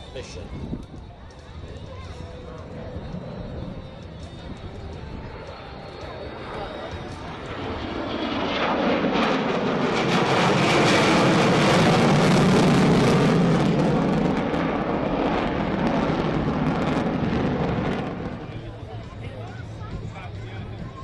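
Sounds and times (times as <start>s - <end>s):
jet engines roaring in flyby: 0.0s - 21.0s.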